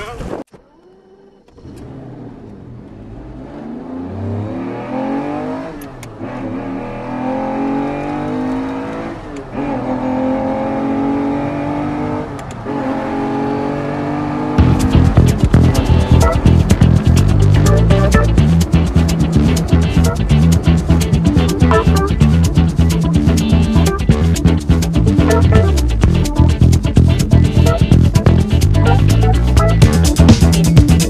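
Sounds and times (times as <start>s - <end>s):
engine revving up: 1.4s - 31.0s.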